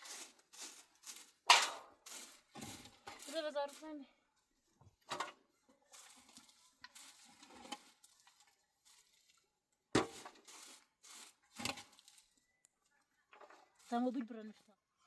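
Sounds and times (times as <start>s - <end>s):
rustling and scraping: 0.0s - 12.4s, 13.3s - 14.8s.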